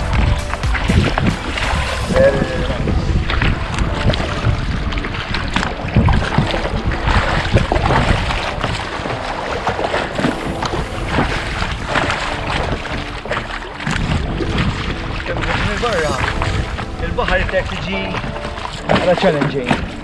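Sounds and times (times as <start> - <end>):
water splashing around kayak: 0.0 - 20.0
wind buffeting microphone: 0.0 - 20.0.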